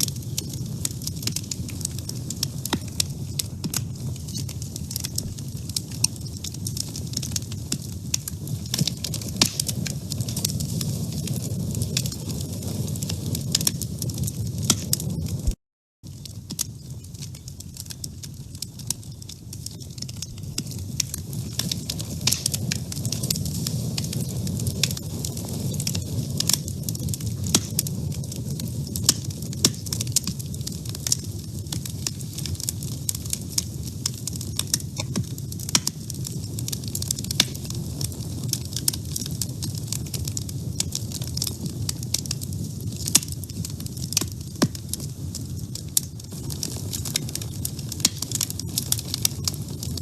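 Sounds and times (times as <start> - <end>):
low rumble of flames: 0.0 - 50.0
wood fire crackling and popping: 0.0 - 50.0.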